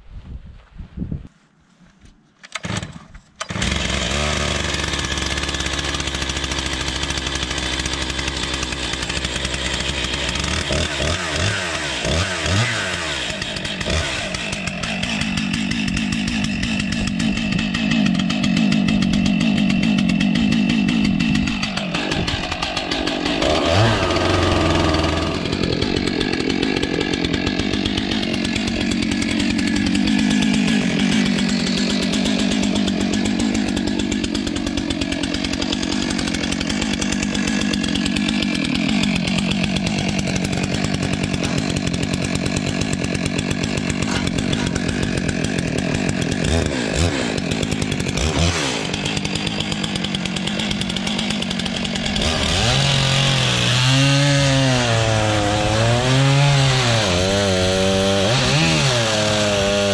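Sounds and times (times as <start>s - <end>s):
chainsaw cutting logs: 2.4s - 59.9s.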